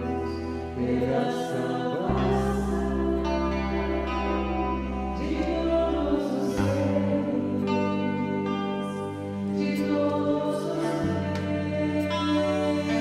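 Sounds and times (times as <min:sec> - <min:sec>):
women singing into microphones: 0:00.0 - 0:13.0.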